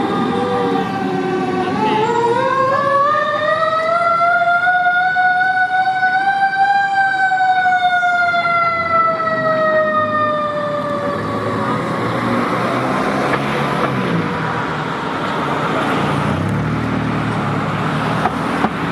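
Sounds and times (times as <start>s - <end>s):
fire engine passing: 0.0s - 18.9s
road and engine noise: 0.0s - 18.9s.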